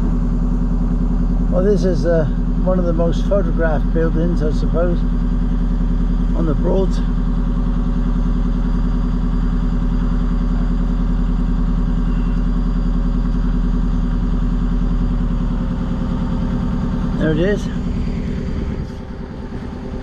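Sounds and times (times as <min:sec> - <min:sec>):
diesel engine low drone: 0:00.0 - 0:20.0.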